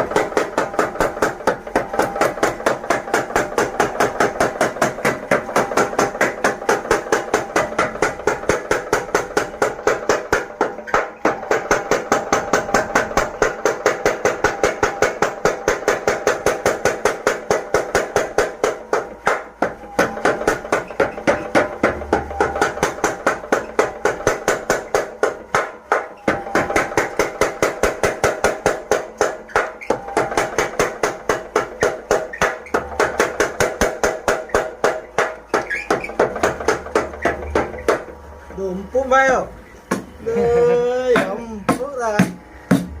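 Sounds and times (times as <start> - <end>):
power hammer pounding metal: 0.0 - 40.2, 41.1 - 43.0.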